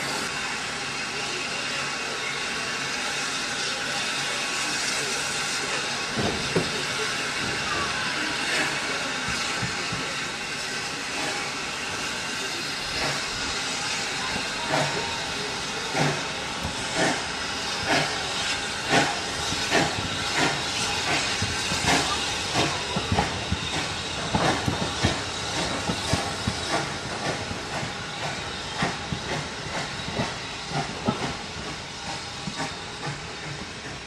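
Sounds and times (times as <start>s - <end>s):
steam exhaust beats: 0.0s - 34.0s
steam hissing: 0.0s - 34.0s.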